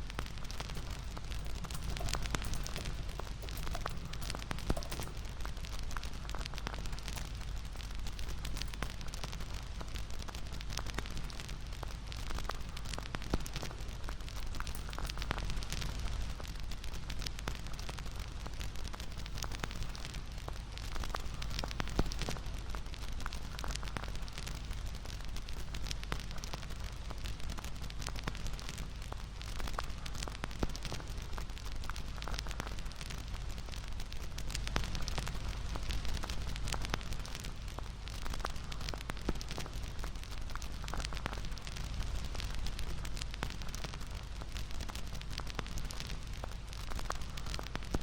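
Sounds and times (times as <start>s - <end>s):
bonfire crackling and popping: 0.0s - 48.0s
low rumble of burning wood: 0.0s - 48.0s.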